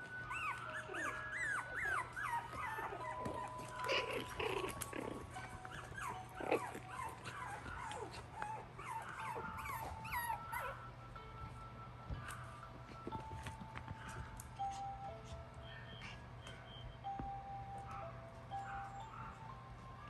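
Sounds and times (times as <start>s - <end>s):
puppies yipping and whining: 0.0s - 11.0s, 12.1s - 20.0s
soft background music: 0.0s - 20.0s.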